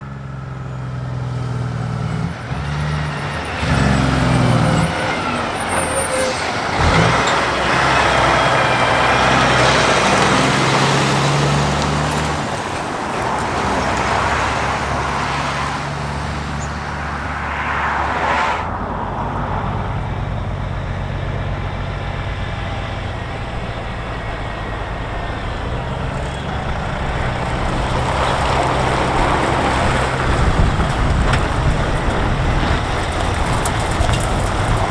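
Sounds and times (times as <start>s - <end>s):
diesel truck engine passing: 0.0s - 34.9s
road noise: 0.0s - 34.9s.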